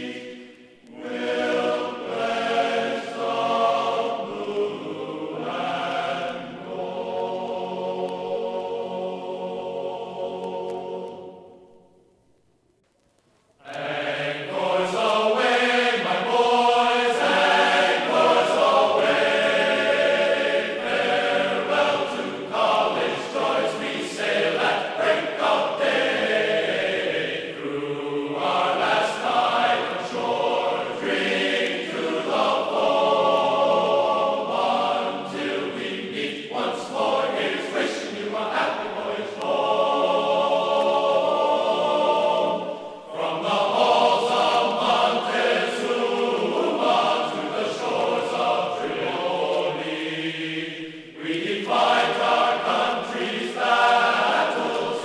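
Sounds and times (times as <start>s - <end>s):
choir singing held chords: 0.0s - 12.2s, 13.6s - 55.0s.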